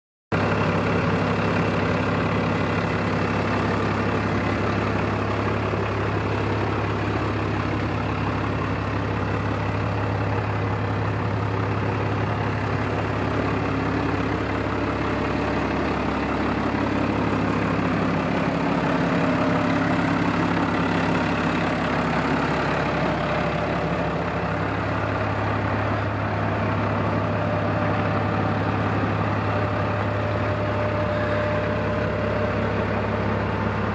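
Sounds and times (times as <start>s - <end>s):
tractor diesel engine running: 0.3s - 33.9s.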